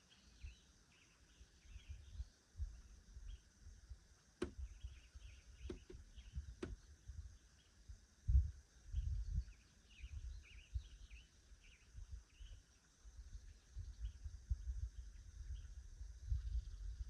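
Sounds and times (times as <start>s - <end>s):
faint insect hum: 0.0s - 17.0s
small birds chirping: 0.0s - 17.0s.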